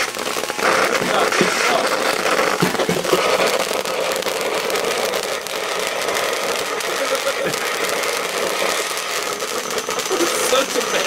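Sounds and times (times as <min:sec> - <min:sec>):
sparkler fizzing crackle: 0:00.0 - 0:11.0
stand mixer motor running: 0:00.0 - 0:11.0.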